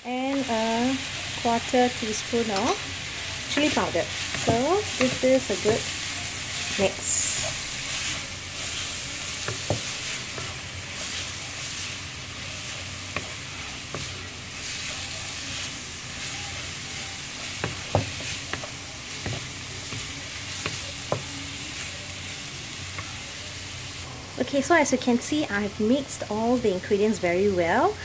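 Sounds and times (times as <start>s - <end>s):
vegetables sizzling in a wok: 0.0s - 28.0s.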